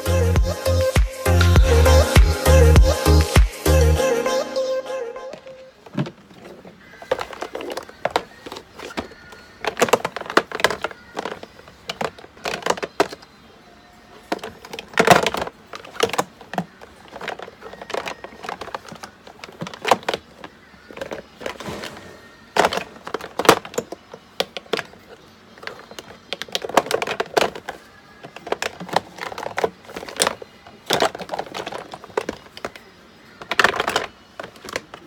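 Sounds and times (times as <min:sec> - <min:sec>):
makeup bottles clinking: 0:05.3 - 0:13.5, 0:14.1 - 0:35.0.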